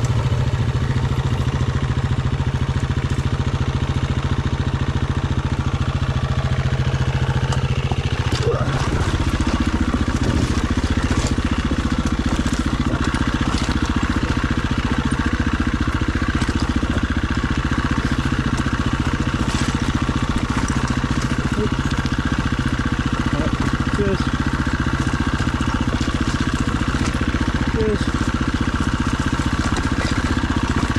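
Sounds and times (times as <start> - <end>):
dirt bike engine idling low: 0.0 - 30.9.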